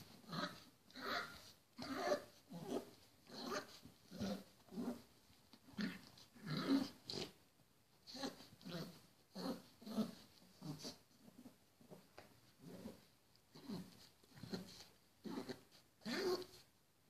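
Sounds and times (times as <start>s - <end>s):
puppy growling: 0.0s - 7.4s, 8.0s - 16.6s.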